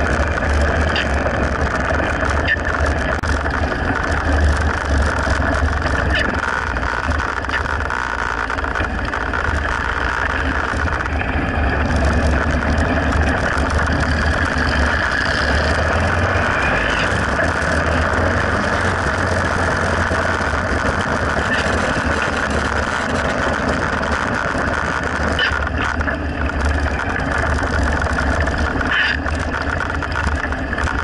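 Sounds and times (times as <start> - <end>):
motorcycle engine running: 0.0 - 31.0
tyre noise on wet road: 0.0 - 31.0.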